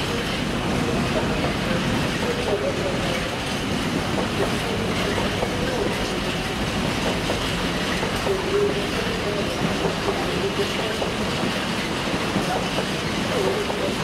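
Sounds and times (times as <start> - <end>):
train wheels on rails: 0.0 - 14.0
train whine: 0.0 - 14.0.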